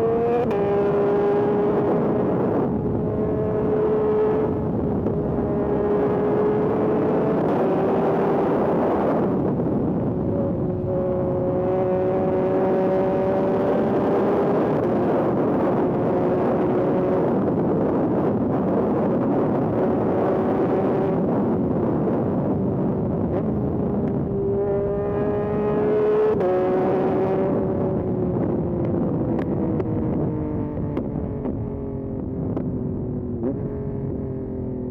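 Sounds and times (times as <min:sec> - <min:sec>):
motorcycle engine on the move: 0:00.0 - 0:34.9
wind rush: 0:00.0 - 0:34.9.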